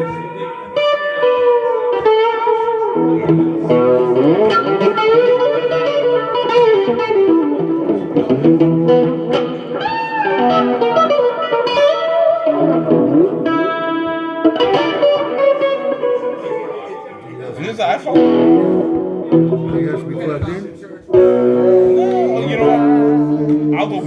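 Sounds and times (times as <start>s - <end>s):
electric guitar blues line: 0.0s - 24.0s.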